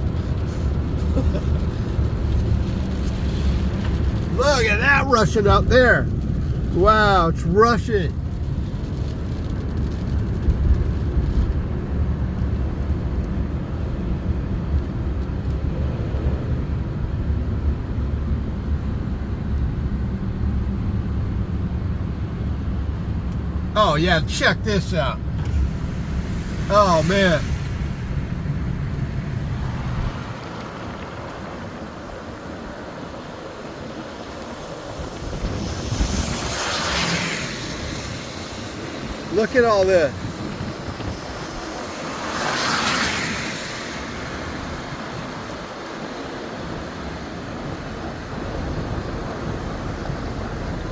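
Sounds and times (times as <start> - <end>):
tyres hissing on wet road: 0.0 - 16.8, 23.7 - 50.9
car interior rumble: 0.0 - 50.9.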